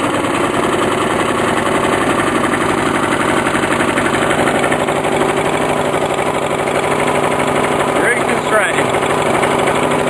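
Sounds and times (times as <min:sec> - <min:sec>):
lawn mower engine fast idle: 0:00.0 - 0:10.0.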